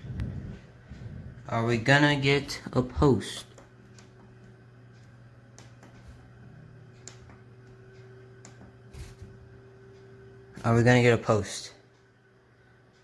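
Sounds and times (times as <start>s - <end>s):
computer fan hum: 0.0s - 13.0s.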